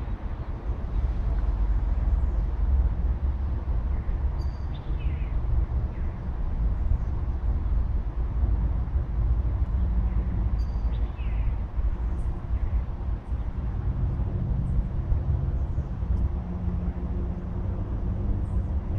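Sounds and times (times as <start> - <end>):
low outdoor rumble: 0.0 - 18.9.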